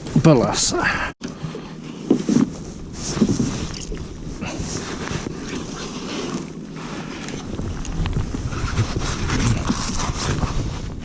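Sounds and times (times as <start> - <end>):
handling knocks and rustles: 1.2 - 11.0
wind rumbling on microphone: 2.0 - 11.0.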